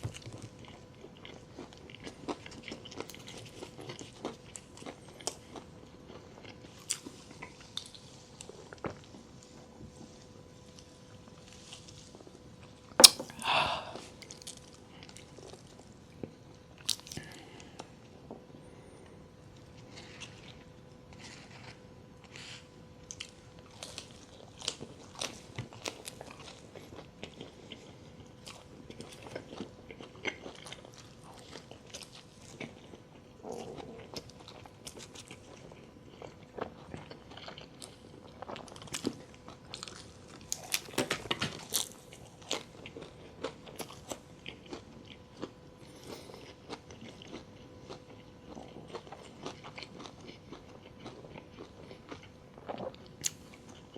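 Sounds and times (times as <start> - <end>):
person chewing crunchy food: 0.1 - 12.4, 13.0 - 18.4, 19.6 - 53.9.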